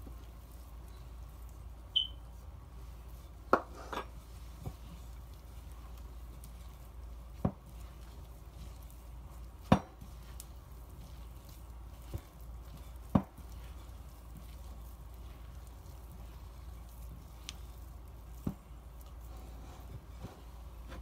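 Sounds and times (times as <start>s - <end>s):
hands kneading dough: 0.0s - 21.0s.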